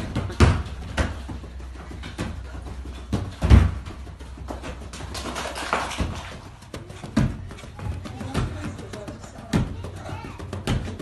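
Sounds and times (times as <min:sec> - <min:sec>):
feet thudding and scuffing: 0:00.0 - 0:11.0.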